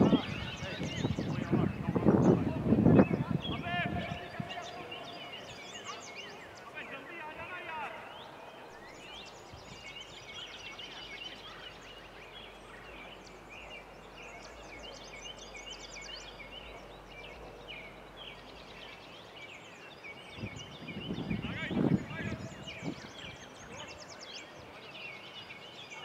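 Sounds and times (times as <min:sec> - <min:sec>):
small birds chirping: 0:00.0 - 0:26.0
steady background hiss: 0:00.0 - 0:26.0.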